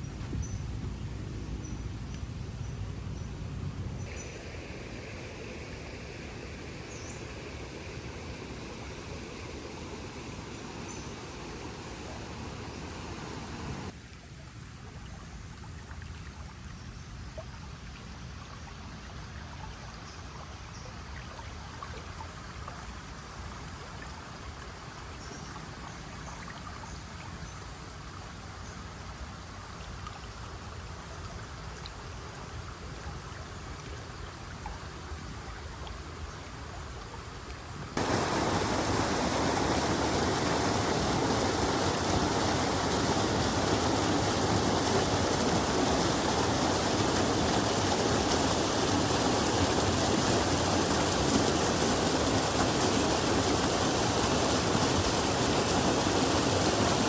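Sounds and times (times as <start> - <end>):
rushing flowing water: 4.0 - 14.0, 17.7 - 57.0.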